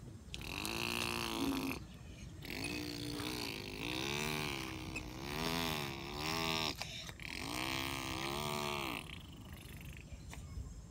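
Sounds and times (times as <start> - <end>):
person imitating engine noise: 0.3 - 10.1.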